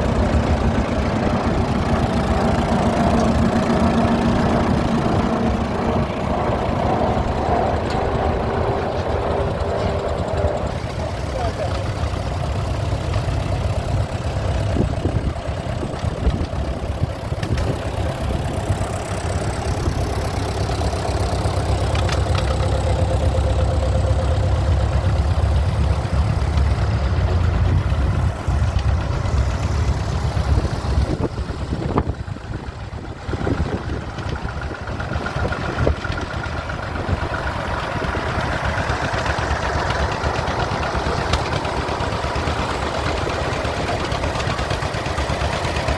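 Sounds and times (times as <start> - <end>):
tractor engines idling: 0.0 - 45.9.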